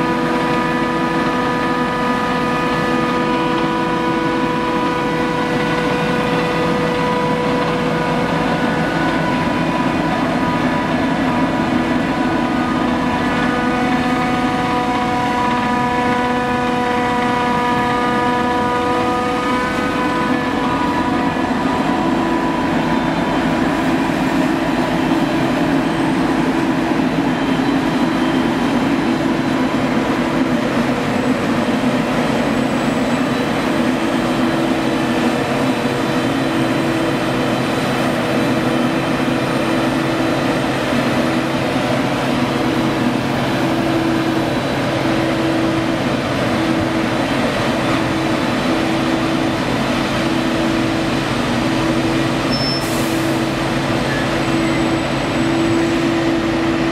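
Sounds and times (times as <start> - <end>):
forage harvester droning: 0.0 - 56.9
tractor pulling a trailer: 0.0 - 56.9.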